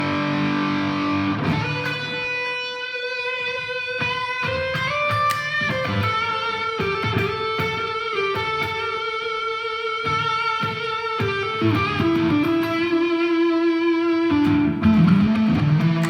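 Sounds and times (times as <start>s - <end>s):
electric guitar sustained bent notes: 0.0s - 16.0s.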